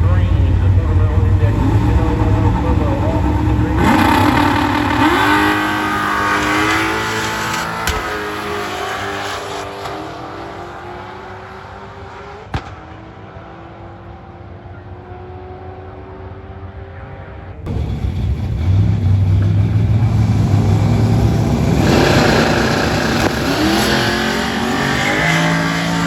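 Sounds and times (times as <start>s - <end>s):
drag racing cars accelerating: 0.0s - 26.0s.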